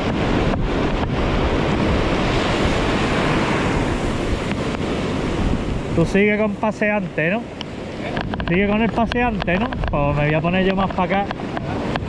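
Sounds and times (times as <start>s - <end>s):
sea surf washing in: 0.0s - 12.0s
wind buffeting microphone: 0.0s - 12.0s.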